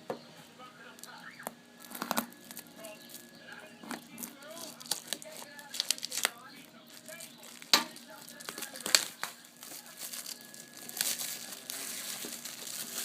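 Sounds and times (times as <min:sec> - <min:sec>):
wrapper crinkling and tearing: 0:01.8 - 0:13.0.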